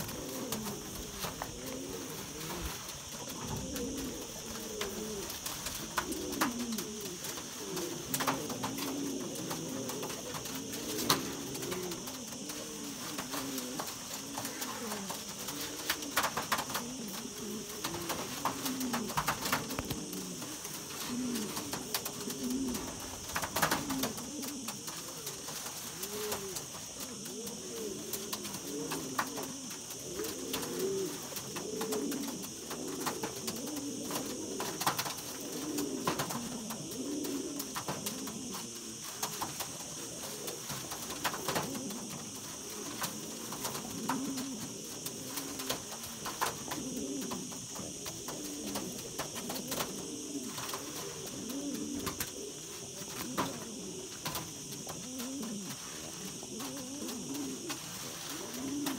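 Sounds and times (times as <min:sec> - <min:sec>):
pigeons cooing: 0:00.0 - 0:58.9
steady high hiss: 0:00.0 - 0:58.9.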